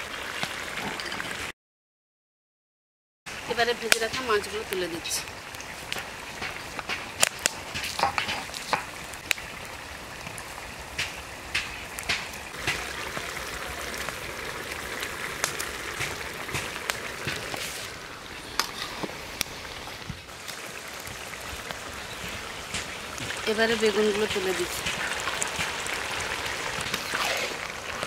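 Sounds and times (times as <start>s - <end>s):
curry simmering and bubbling: 3.3s - 28.0s.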